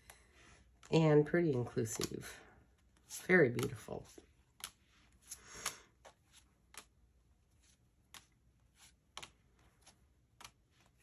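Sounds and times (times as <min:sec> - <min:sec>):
cards tapping and sliding: 0:01.8 - 0:11.0.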